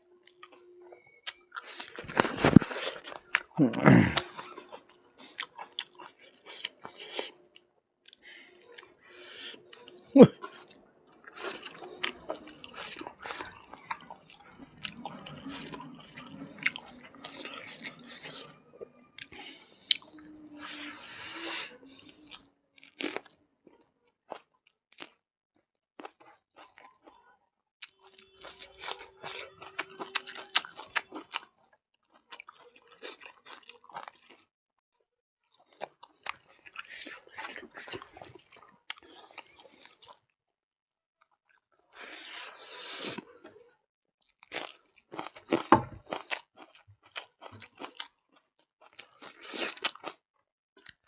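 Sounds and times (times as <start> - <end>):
person chewing food: 0.2 - 25.2, 26.0 - 34.5, 35.5 - 40.3, 41.2 - 50.2, 50.8 - 51.0.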